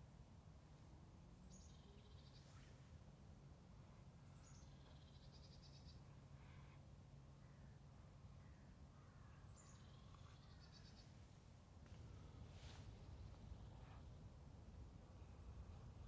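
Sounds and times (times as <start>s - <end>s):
low steady background hum: 0.0s - 16.0s.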